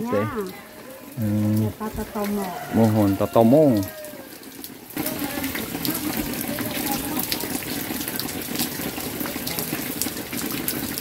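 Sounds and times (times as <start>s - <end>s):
small water drips: 0.0s - 11.0s
water running and splashing: 0.0s - 11.0s.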